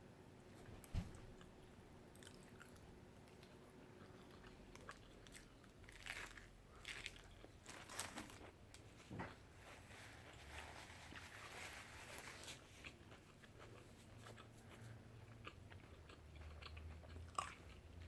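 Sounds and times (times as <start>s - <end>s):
chewing and crunching food: 1.1s - 8.6s, 10.2s - 18.0s.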